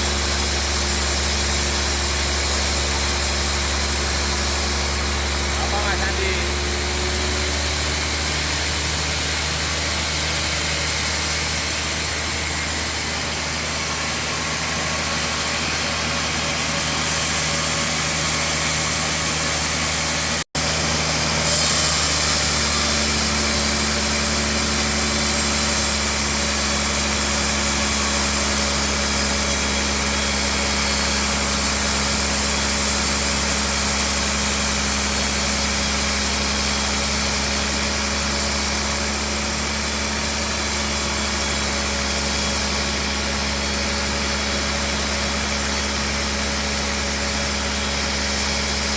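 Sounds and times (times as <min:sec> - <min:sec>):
sawmill machinery drone: 0:00.0 - 0:48.9.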